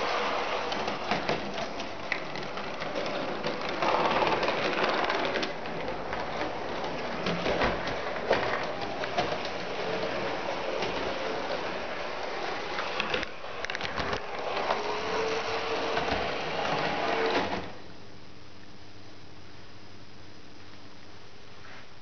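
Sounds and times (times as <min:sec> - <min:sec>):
model tram motor and wheels: 0:00.0 - 0:17.8.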